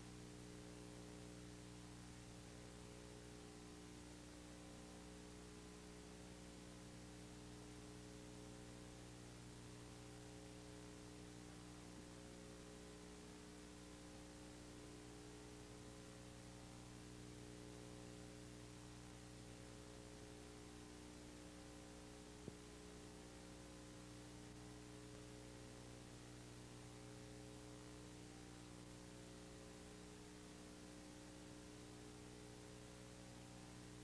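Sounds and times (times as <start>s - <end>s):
background hiss: 0.0s - 34.0s
faint electrical hum: 0.0s - 34.0s.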